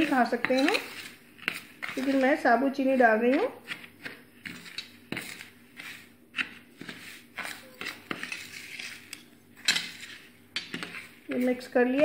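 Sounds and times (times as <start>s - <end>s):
spoon stirring in metal dish: 0.0s - 12.0s.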